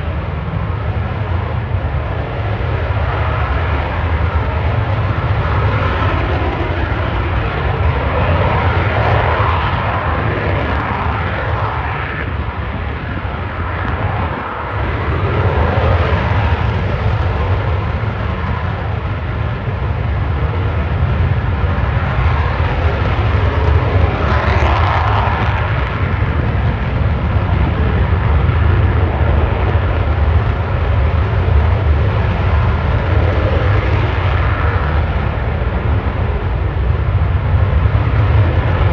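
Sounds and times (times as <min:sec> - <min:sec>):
jet engines roaring: 0:00.0 - 0:38.9.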